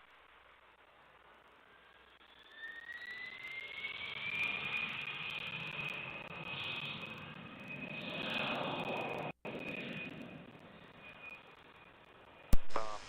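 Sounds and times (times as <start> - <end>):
jet engines whining: 1.2 - 13.0.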